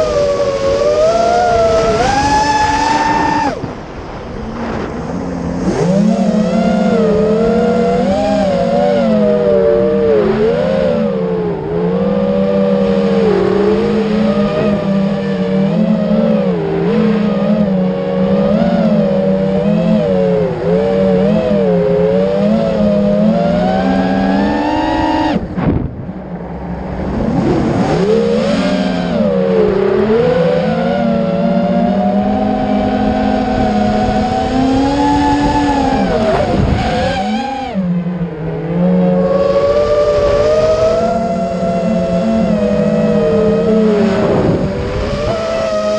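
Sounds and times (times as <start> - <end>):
engine revving: 0.0 - 45.9.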